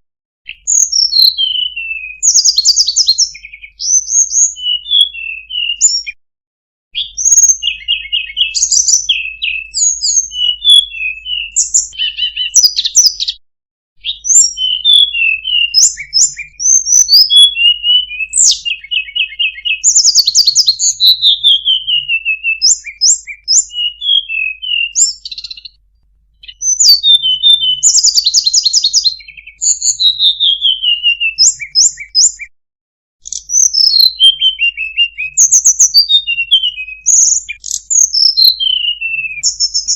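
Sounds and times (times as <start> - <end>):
bird singing chirps and trills: 0.5 - 6.2, 7.0 - 13.4, 14.0 - 25.8, 26.4 - 32.5, 33.2 - 39.9.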